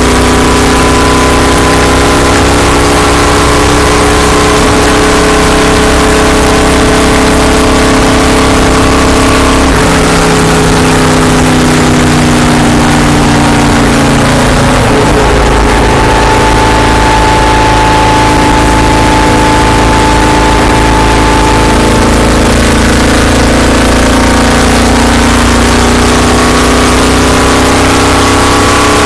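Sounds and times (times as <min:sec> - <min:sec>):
racing engine running hard: 0:00.0 - 0:29.0.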